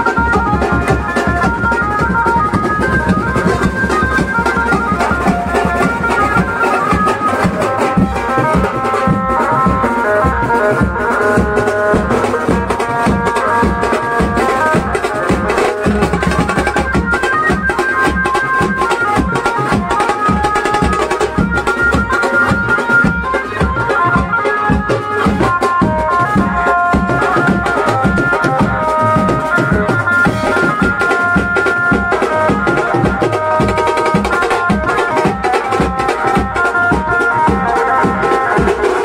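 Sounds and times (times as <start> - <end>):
loud music with drum beat: 0.0 - 39.0.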